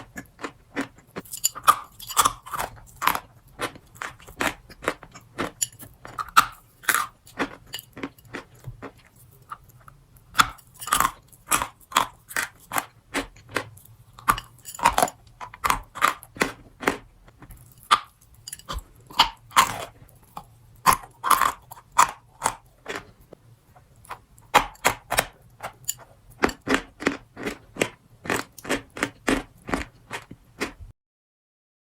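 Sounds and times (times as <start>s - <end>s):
crunchy food chewing: 0.0s - 30.9s.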